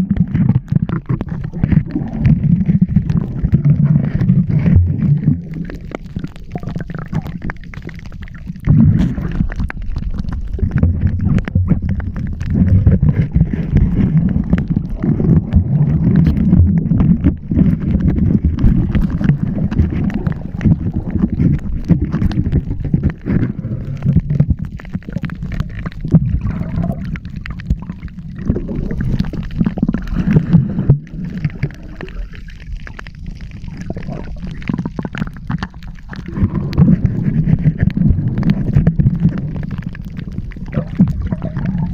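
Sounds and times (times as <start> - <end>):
underwater sloshing and gurgling: 0.0 - 41.9.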